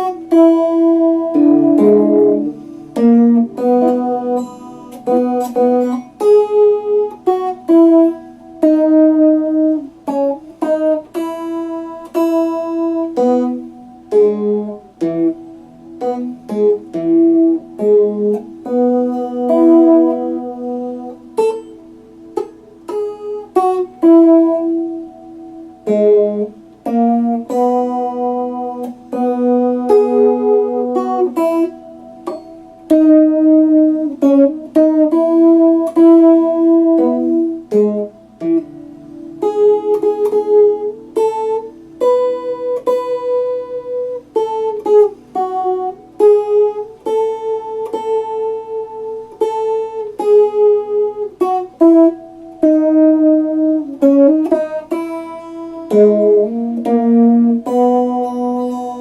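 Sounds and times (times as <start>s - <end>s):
clean electric guitar melody: 0.0s - 59.0s.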